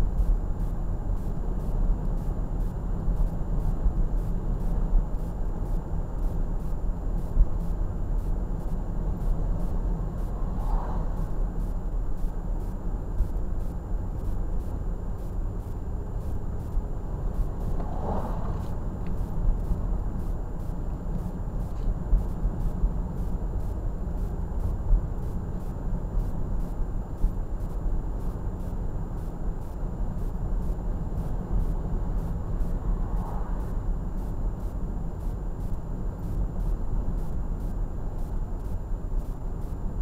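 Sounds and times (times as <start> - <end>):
car interior road rumble: 0.0 - 40.0.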